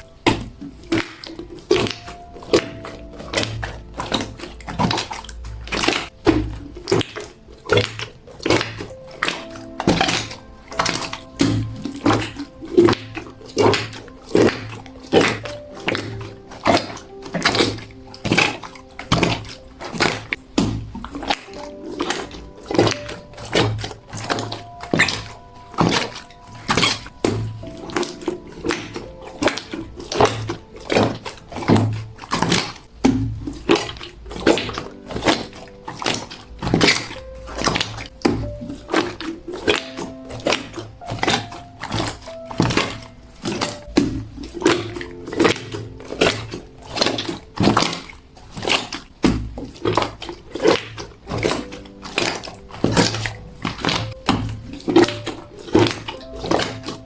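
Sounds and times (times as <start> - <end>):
slime squelching by hand: 0.0 - 57.0.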